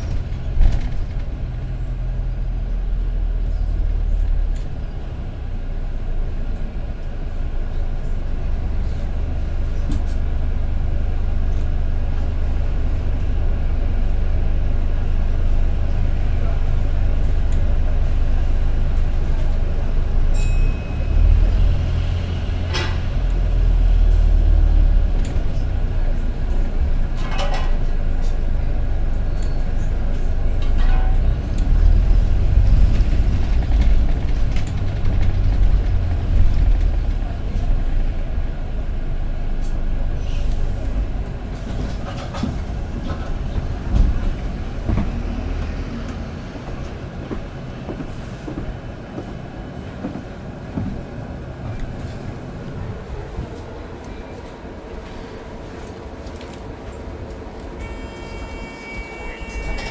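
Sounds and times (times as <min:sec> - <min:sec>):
bus body rattling and squeaking: 0:00.0 - 0:59.9
bus engine and road rumble: 0:00.0 - 0:59.9.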